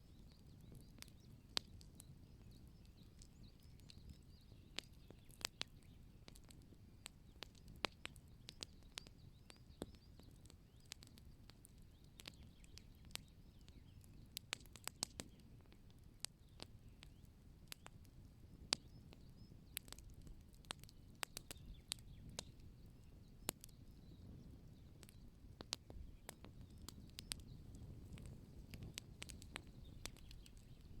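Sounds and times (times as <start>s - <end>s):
open fire crackling: 0.0s - 31.0s.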